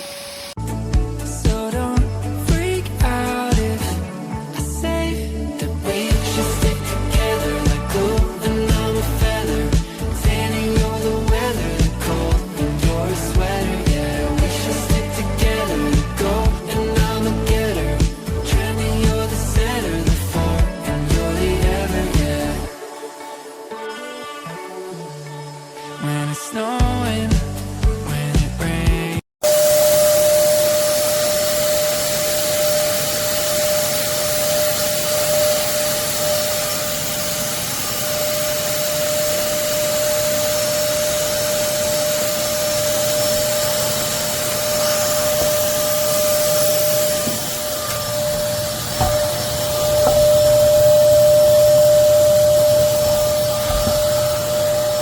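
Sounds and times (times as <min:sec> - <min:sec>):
vacuum cleaner running: 0:00.0 - 0:04.0, 0:05.9 - 0:23.8, 0:29.4 - 0:55.0.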